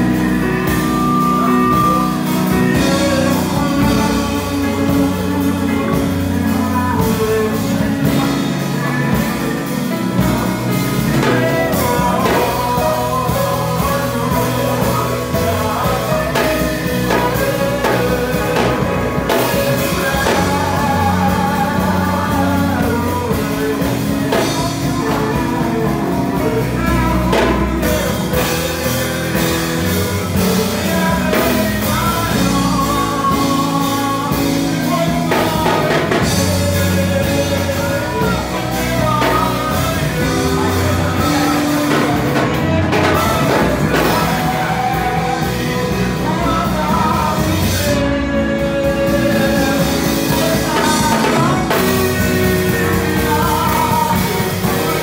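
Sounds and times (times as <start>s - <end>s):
drum kit playing: 0.0s - 55.0s
man singing into microphone: 0.0s - 55.0s.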